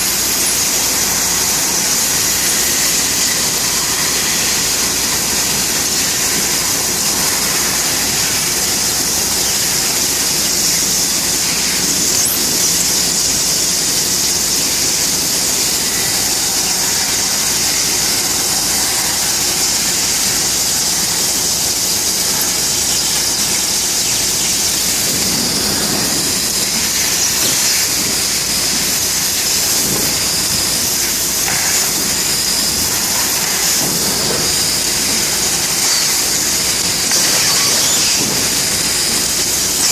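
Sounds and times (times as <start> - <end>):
laser cutter high-pitched hiss: 0.0 - 39.9
machine noise: 0.0 - 39.9.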